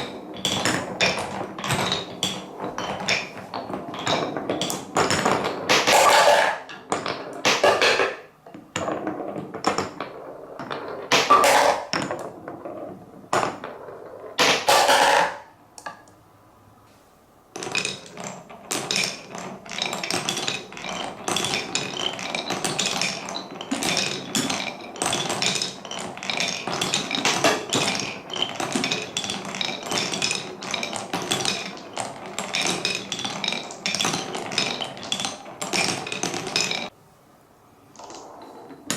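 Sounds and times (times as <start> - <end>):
marbles rolling and clacking: 0.0 - 16.1, 17.5 - 36.9, 38.0 - 38.9.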